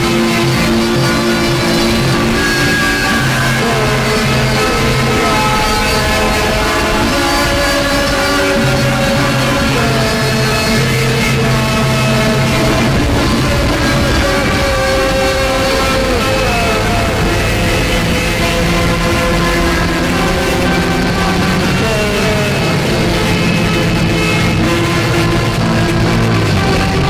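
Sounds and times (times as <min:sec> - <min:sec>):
pulsing bass note: 0:00.0 - 0:27.0
rock music with guitar: 0:00.0 - 0:27.0
sliding guitar tones: 0:00.0 - 0:27.0.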